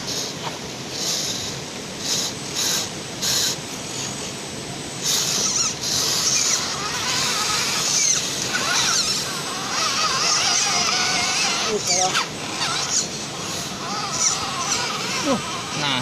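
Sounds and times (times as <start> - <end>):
toy truck electric motors whining: 0.0 - 4.4, 5.0 - 16.0.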